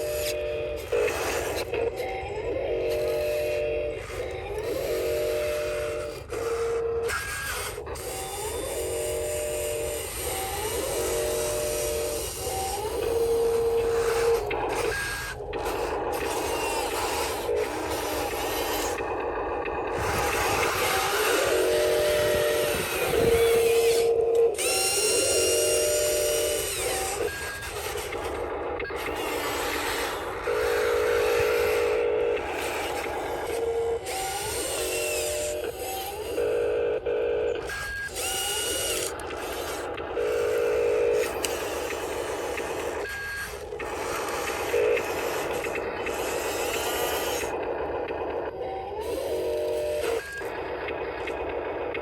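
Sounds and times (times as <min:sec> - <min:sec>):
small electric motors whining: 0:00.0 - 0:52.0.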